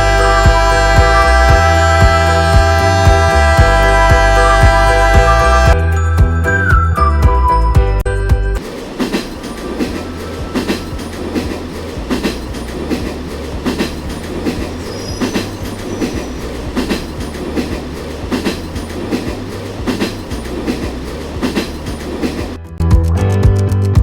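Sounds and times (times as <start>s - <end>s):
train wheels clacking: 0.0s - 5.8s, 8.6s - 22.6s
train low rumble: 0.0s - 23.0s.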